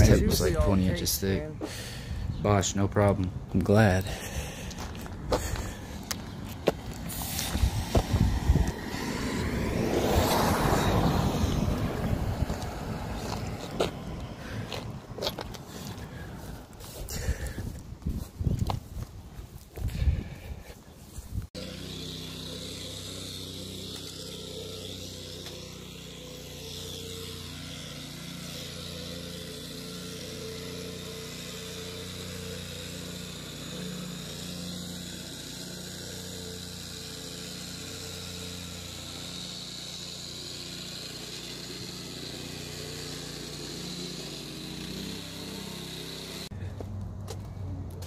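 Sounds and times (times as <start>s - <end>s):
engine running steadily: 0.0s - 17.9s, 18.9s - 48.0s.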